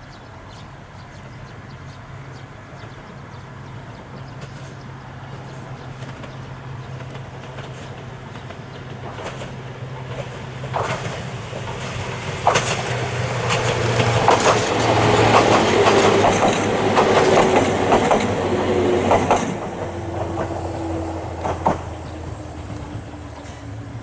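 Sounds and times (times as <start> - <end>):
electric train whine: 0.0 - 24.0
train wheels clicking over rail joints: 4.0 - 24.0.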